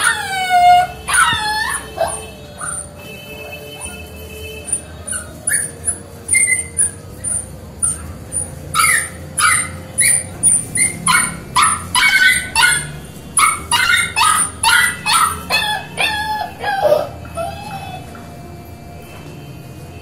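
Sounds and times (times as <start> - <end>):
puppies yelping and whimpering: 0.0 - 18.4.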